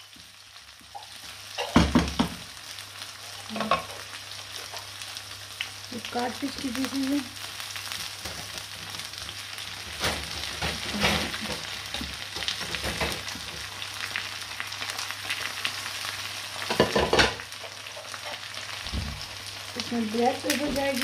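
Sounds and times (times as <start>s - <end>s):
fish sizzling in a pan: 0.0s - 21.0s.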